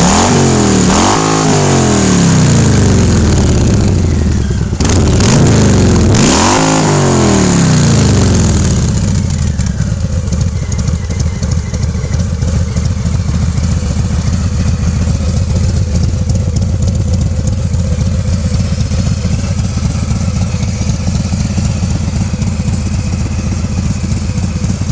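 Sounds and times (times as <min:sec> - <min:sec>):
motorcycle engine revving and idling: 0:00.0 - 0:24.9.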